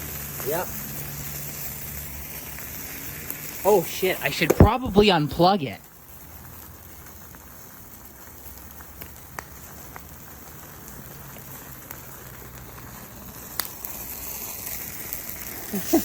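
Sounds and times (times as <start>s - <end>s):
coffee maker burning hiss: 0.0s - 16.0s
sharp crackles: 0.0s - 16.0s.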